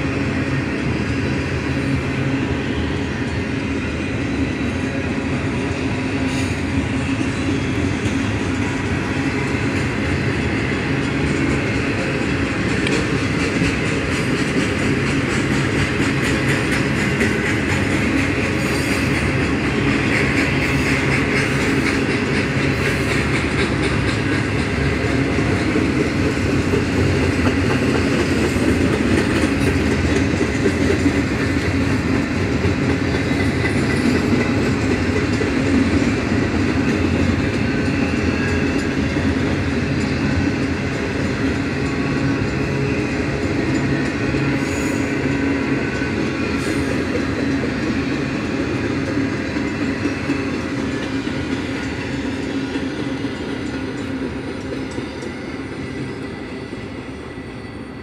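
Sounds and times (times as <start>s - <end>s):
steel wheels on rail: 0.0s - 58.0s.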